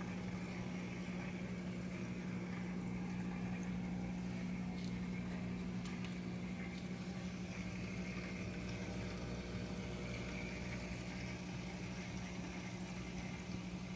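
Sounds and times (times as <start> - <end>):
aquarium air pump humming: 0.0 - 13.9.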